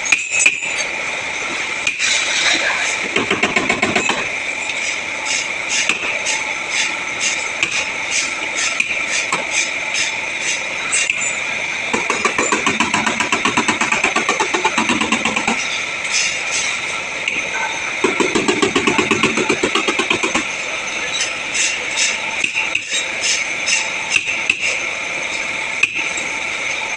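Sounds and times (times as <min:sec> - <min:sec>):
machine whining with fast pulsing: 0:00.0 - 0:26.9.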